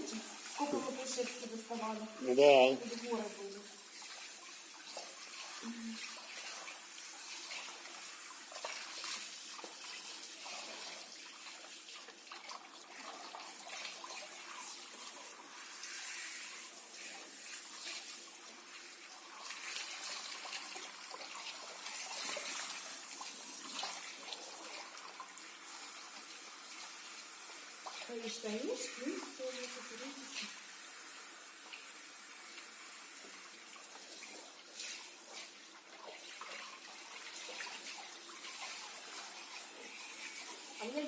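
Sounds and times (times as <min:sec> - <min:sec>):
shower water splashing in bathtub: 0:00.0 - 0:41.0.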